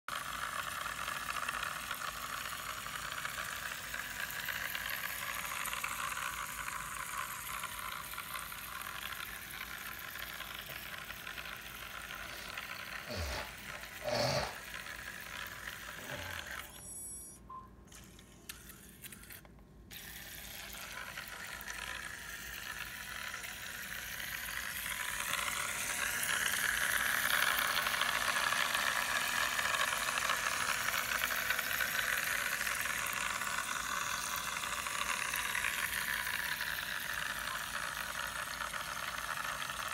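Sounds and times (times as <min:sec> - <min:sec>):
toy boat motor whirring: 0:00.1 - 0:39.9.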